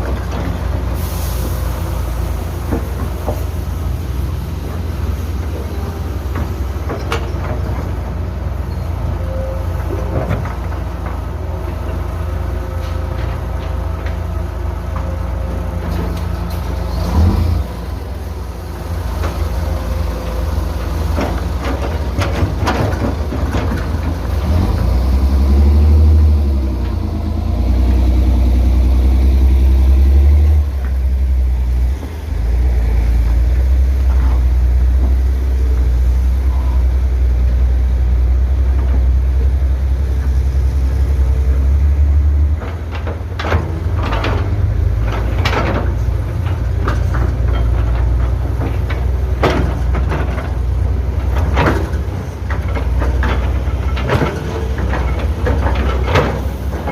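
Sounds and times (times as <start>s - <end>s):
diesel engine rumbling and revving: 0.0s - 56.9s.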